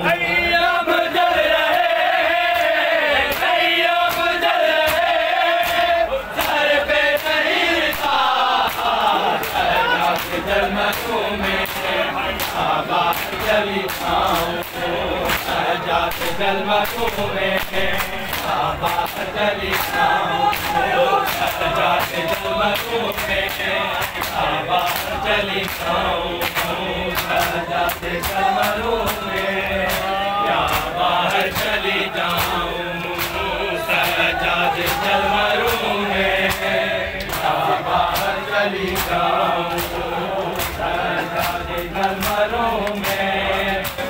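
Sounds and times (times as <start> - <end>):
men chanting in unison: 0.0 - 44.0
hands slapping bare chests: 2.5 - 44.0.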